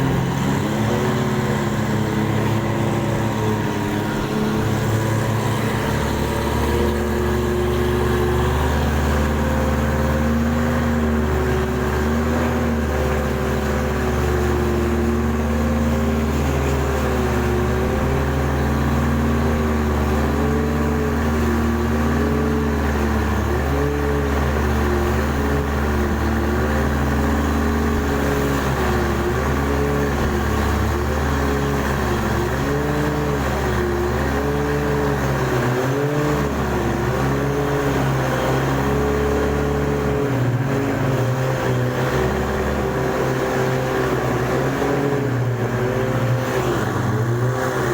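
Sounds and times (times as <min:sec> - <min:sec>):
boat engine humming: 0:00.0 - 0:47.9.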